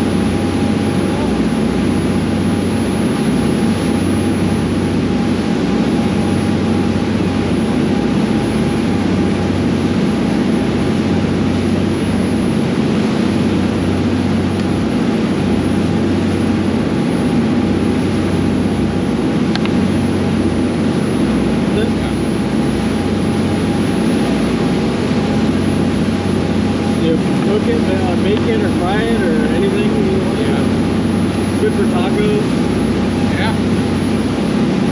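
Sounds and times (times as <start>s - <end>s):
boat engines droning: 0.0s - 34.9s.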